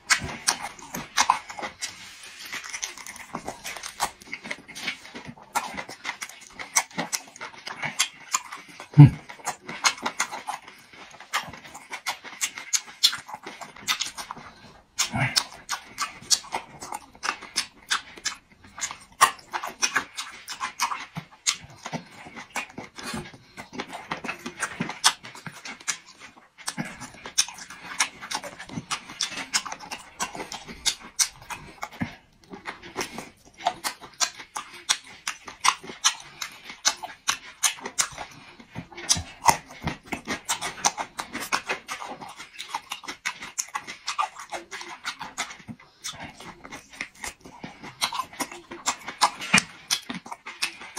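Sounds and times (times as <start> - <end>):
close chewing with mouth smacks: 0.0 - 50.9.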